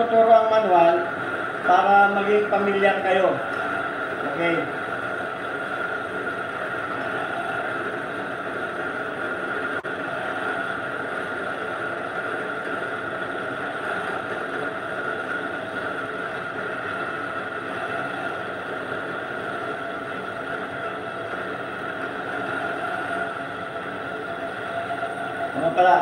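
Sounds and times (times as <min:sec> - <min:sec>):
lathe humming and whining: 0:00.0 - 0:26.0.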